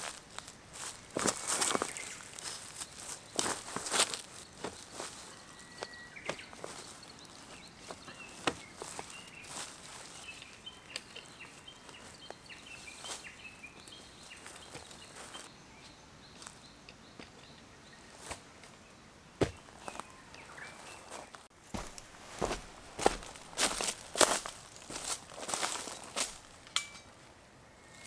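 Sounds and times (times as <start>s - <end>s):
small birds chirping: 0.0s - 26.8s.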